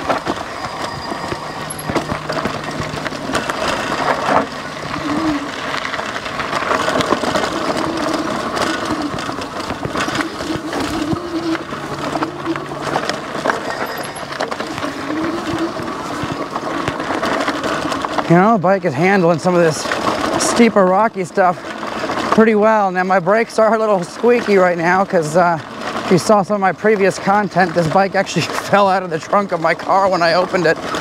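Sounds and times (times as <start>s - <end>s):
gear rattling and banging: 0.0s - 26.4s
bike rattling over rocky trail: 0.0s - 31.0s
tyres on dirt and rock: 0.0s - 31.0s.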